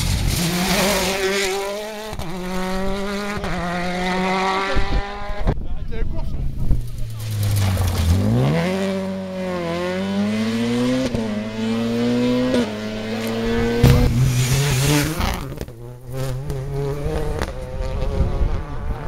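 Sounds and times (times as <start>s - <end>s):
rally car engine at full throttle: 0.0s - 5.7s, 6.3s - 19.0s.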